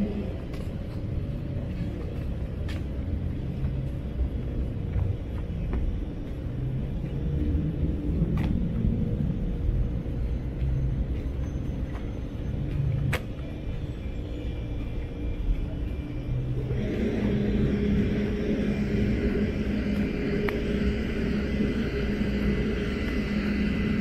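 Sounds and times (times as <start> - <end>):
city road traffic rumble: 0.0 - 24.0.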